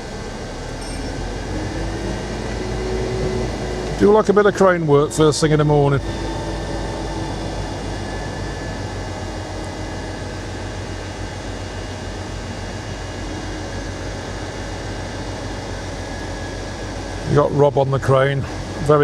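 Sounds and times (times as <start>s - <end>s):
crane diesel engine rumbling: 0.0s - 19.0s.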